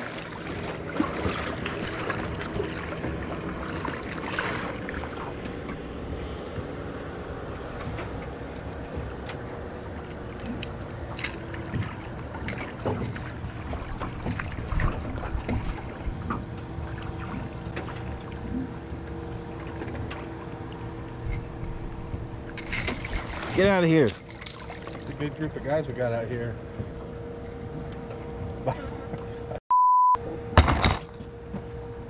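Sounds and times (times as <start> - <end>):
boat motor humming: 0.0 - 29.6, 30.2 - 32.0.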